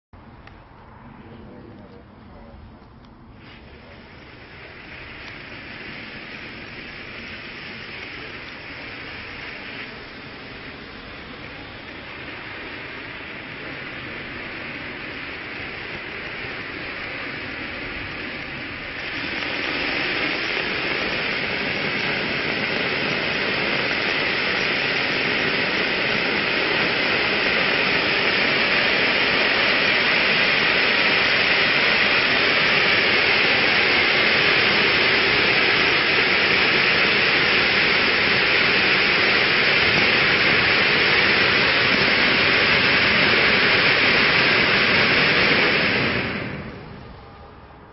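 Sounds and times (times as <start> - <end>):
fountain firework hissing: 0.6 - 47.9.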